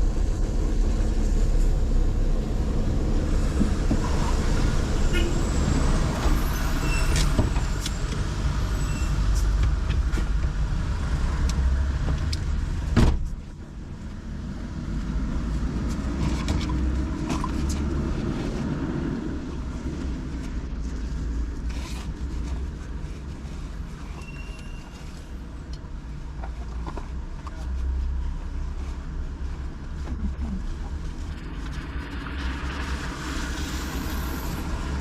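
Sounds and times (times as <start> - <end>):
car engine and tyres rumbling: 0.0 - 35.0
vehicles passing: 0.0 - 35.0.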